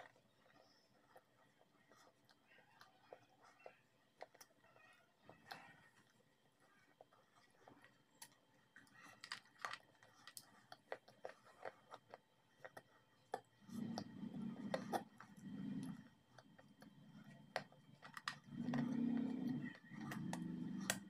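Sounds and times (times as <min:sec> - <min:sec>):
muffled chewing: 0:00.0 - 0:21.0.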